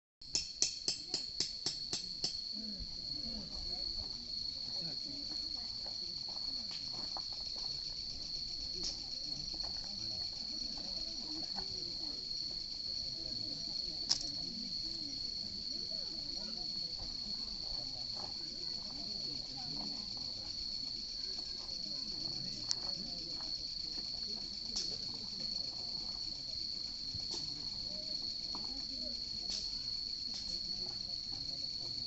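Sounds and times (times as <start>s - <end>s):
crickets trilling: 0.3s - 32.0s.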